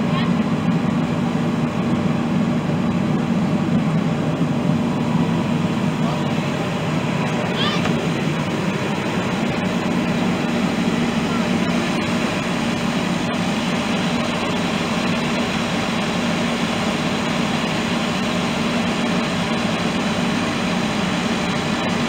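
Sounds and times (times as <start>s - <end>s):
pump engine running: 0.0s - 22.0s
water spraying from nozzles: 0.0s - 22.0s.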